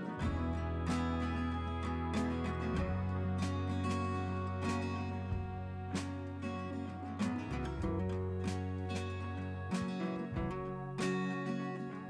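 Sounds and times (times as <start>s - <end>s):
strummed guitar music with beat: 0.0s - 12.0s.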